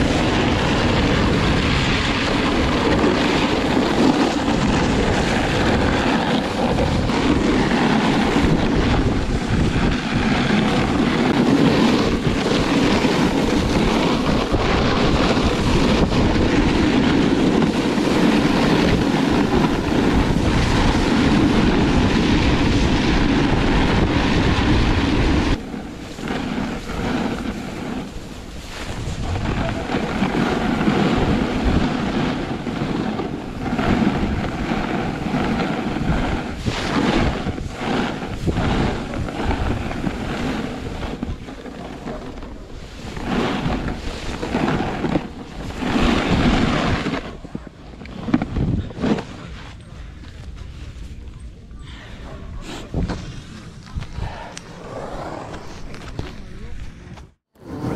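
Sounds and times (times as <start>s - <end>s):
snowboard scraping over snow: 0.0s - 57.9s
wind on microphone: 0.0s - 57.9s.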